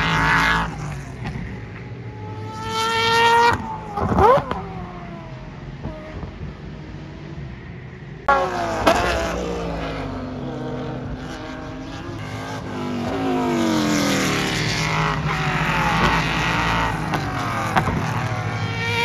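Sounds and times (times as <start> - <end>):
race cars passing at speed: 0.0 - 19.0.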